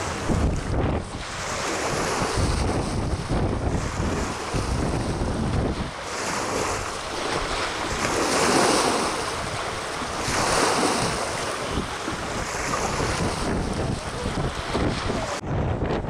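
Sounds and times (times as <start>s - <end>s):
choppy water lapping: 0.0s - 16.0s
wind on microphone: 0.0s - 16.0s.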